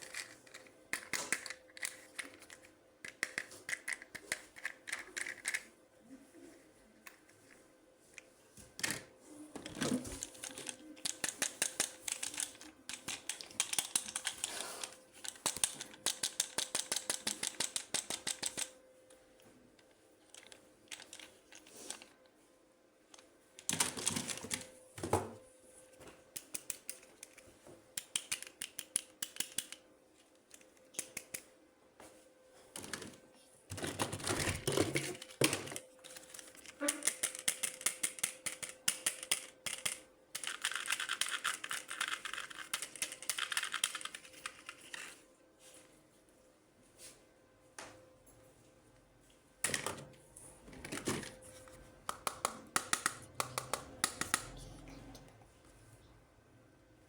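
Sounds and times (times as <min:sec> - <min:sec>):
plastic toys being handled: 0:00.0 - 0:18.8, 0:19.6 - 0:22.2, 0:23.1 - 0:25.4, 0:26.4 - 0:31.4, 0:32.7 - 0:45.2, 0:49.6 - 0:55.1.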